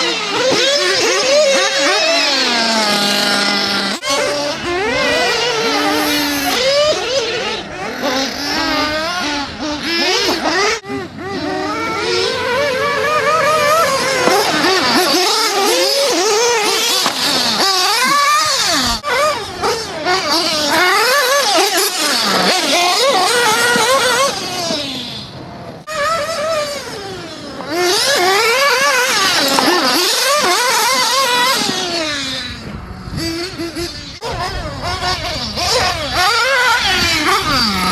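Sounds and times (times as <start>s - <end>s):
rc car motors whining: 0.0s - 37.9s.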